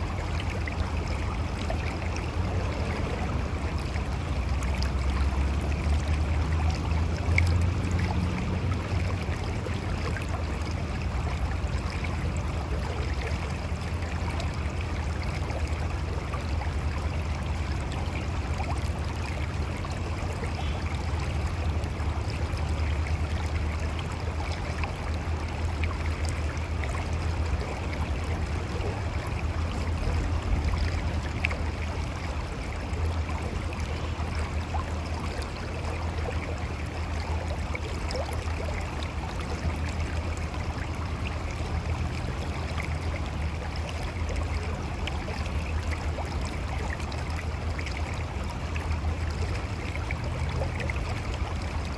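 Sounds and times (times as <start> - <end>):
small water splashes: 0.0 - 51.9.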